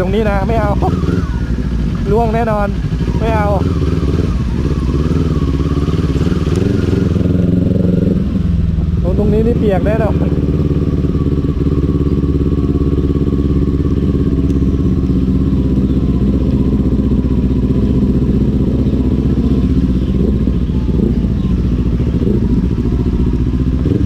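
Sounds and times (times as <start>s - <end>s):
motorcycle engine running steadily: 0.0s - 24.0s.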